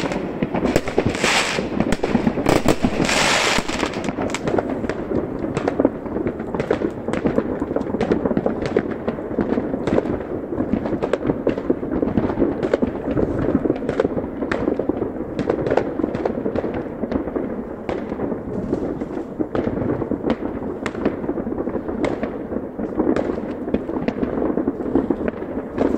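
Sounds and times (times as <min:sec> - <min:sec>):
fireworks banging and crackling: 0:00.0 - 0:25.9
sharp firework cracks: 0:00.0 - 0:25.9.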